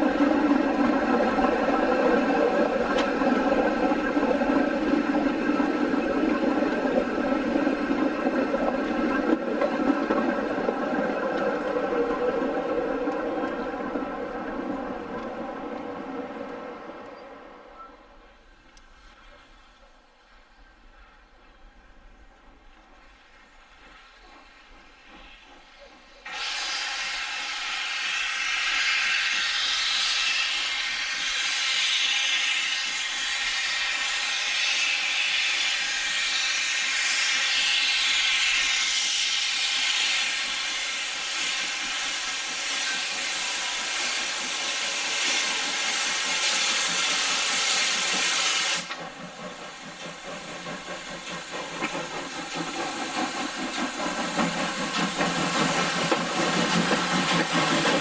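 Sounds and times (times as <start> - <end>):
steam locomotive venting steam: 0.0 - 58.0.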